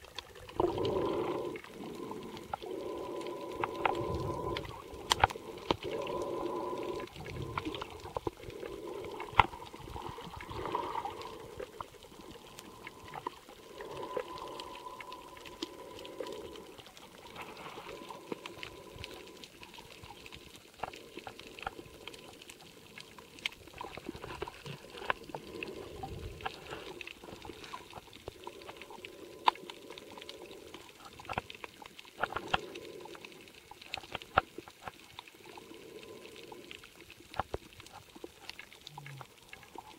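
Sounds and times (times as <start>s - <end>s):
underwater clicks and crackles: 0.0s - 39.9s.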